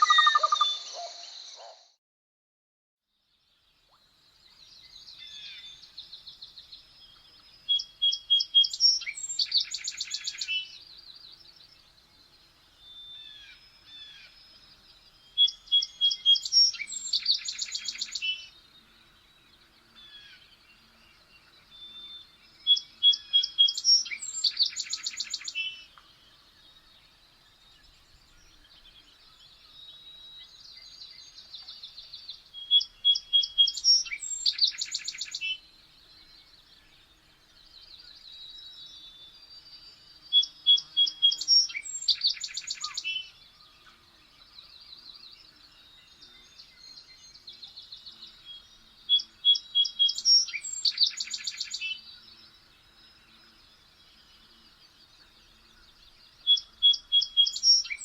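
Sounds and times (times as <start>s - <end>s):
songbird singing: 0.0s - 2.0s, 3.1s - 58.0s.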